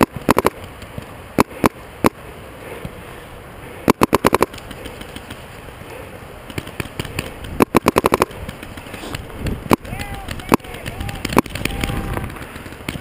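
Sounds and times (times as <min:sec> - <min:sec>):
paintball markers firing: 0:00.0 - 0:02.2, 0:03.8 - 0:05.5, 0:06.4 - 0:13.0.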